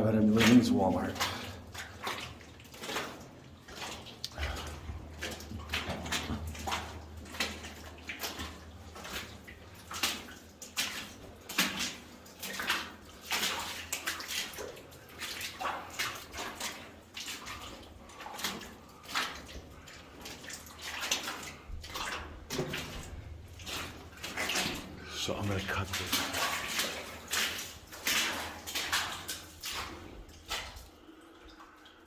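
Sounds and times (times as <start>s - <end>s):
footsteps wading through water: 0.0s - 32.0s.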